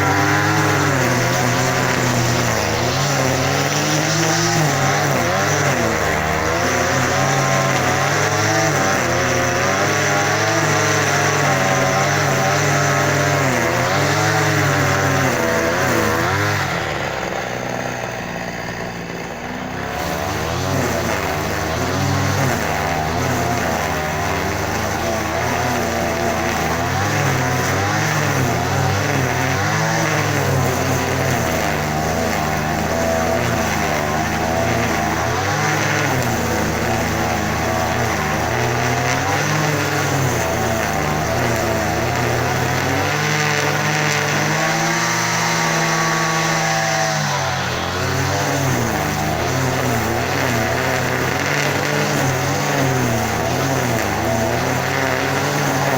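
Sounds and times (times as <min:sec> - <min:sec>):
engine revving: 0:00.0 - 0:55.9.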